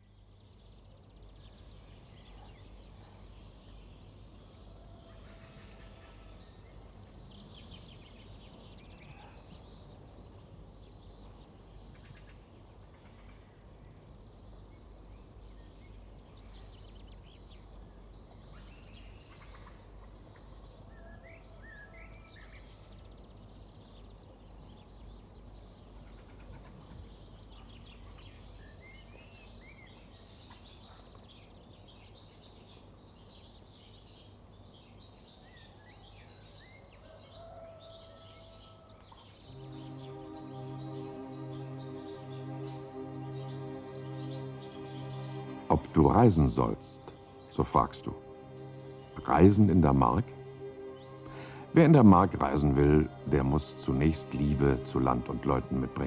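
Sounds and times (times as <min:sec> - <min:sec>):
bird chirps and trills: 0:00.0 - 0:56.0.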